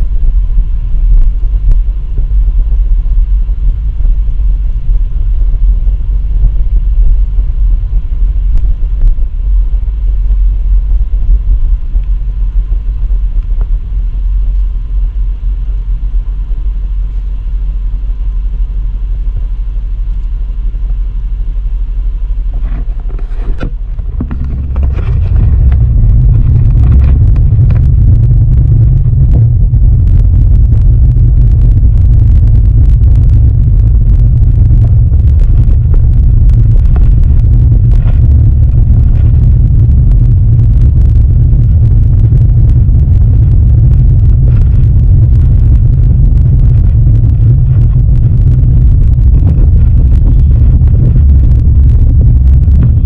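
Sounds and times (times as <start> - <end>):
car rumble from inside cabin: 0.0 - 53.0.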